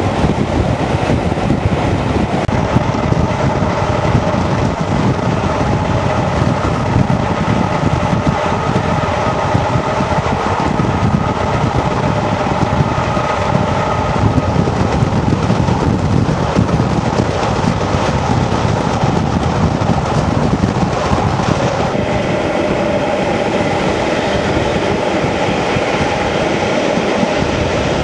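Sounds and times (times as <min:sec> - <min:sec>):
locomotive drone: 0:00.0 - 0:28.0
train wheels on rails: 0:00.0 - 0:28.0.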